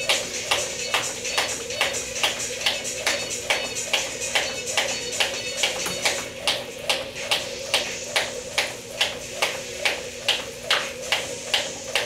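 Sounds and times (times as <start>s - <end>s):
jump rope slapping floor: 0.0s - 12.0s.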